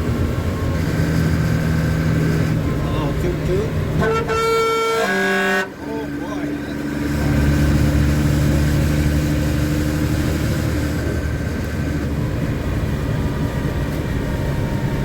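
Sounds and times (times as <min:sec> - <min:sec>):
road and cab noise: 0:00.0 - 0:15.0
truck diesel engine droning: 0:00.0 - 0:15.0.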